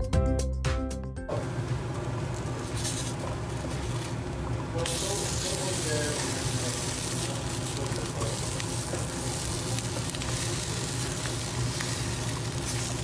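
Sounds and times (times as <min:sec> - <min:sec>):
patties sizzling in oil: 0:01.3 - 0:13.0.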